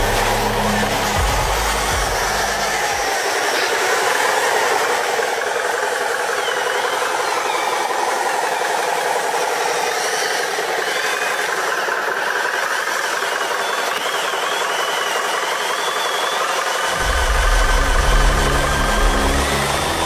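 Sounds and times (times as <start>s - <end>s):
model truck motor whirring: 2.3s - 20.0s.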